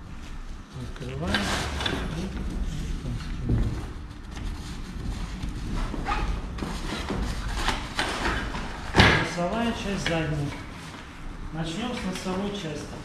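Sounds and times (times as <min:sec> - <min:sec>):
heavy fabric rustling and flapping: 0:01.6 - 0:13.0.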